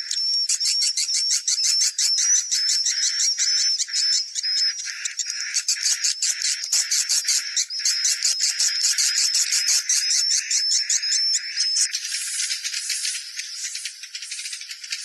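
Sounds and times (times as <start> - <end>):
high-pitched bird chirping: 0.0 - 15.0.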